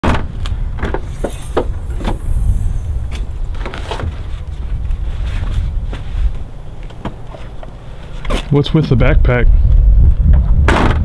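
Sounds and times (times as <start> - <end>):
steady low rumble: 0.3 - 10.7.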